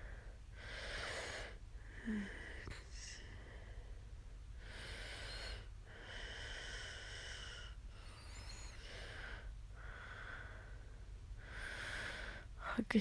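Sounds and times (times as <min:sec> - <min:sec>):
woman breathing noisily: 0:00.0 - 0:12.6
steady low hum: 0:00.0 - 0:13.0.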